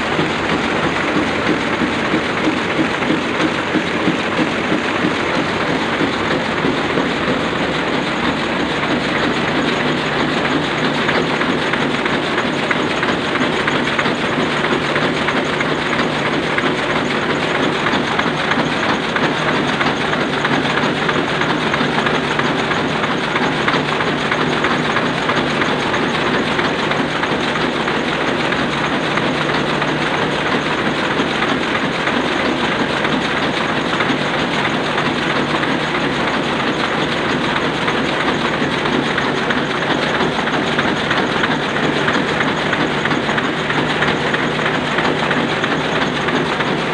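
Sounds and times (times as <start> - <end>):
printing press running: 0.0 - 46.9.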